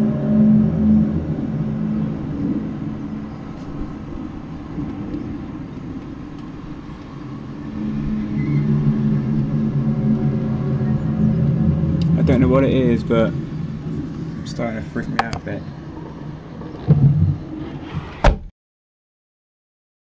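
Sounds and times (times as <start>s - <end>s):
low droning hum: 0.0s - 18.2s.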